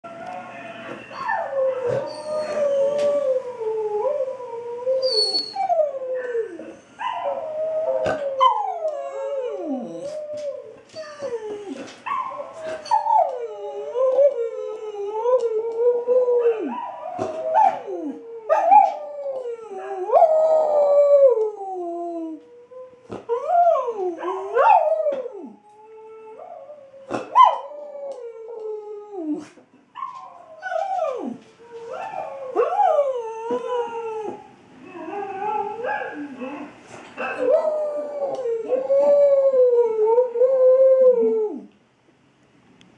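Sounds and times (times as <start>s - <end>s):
recorded dog howling through speakers: 0.0s - 41.7s
dog howling: 1.1s - 29.5s, 30.2s - 41.7s.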